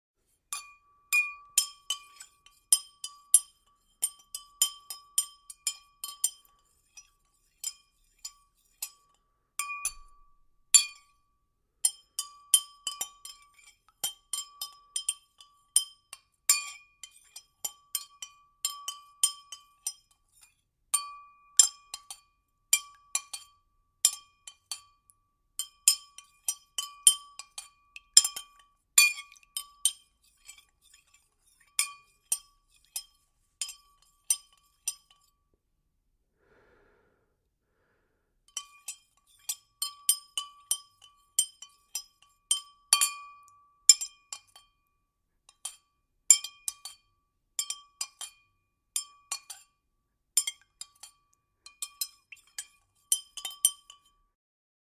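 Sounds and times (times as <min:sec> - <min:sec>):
stirrer clinking in a glass: 0:00.5 - 0:11.2, 0:11.8 - 0:35.4, 0:38.5 - 0:44.9, 0:45.5 - 0:49.8, 0:50.4 - 0:54.2.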